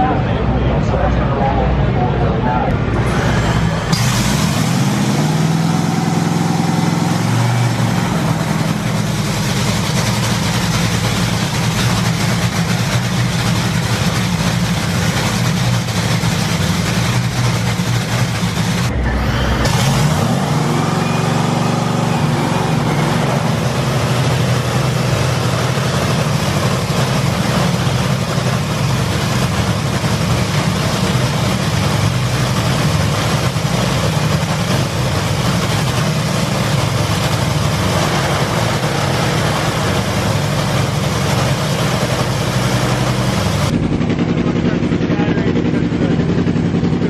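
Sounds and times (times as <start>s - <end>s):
dragster engine running: 0.0s - 47.0s.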